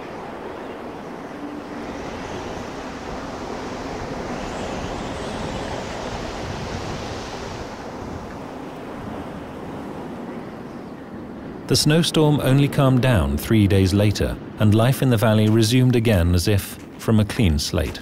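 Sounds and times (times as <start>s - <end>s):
snowstorm wind blowing hard: 0.0s - 18.0s.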